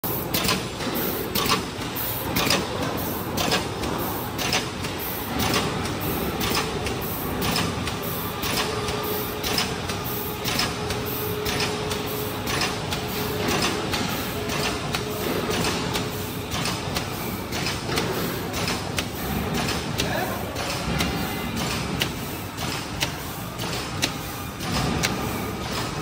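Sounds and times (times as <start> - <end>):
packaging machine running: 0.0 - 26.0.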